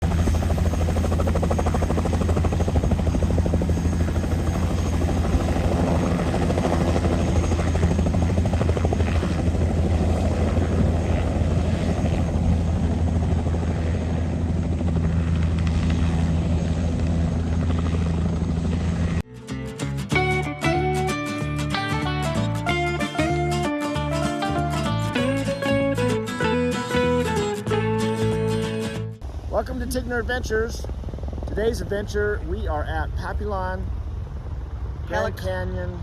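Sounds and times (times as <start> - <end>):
helicopter rotor and engine: 0.0 - 19.2, 20.8 - 36.0.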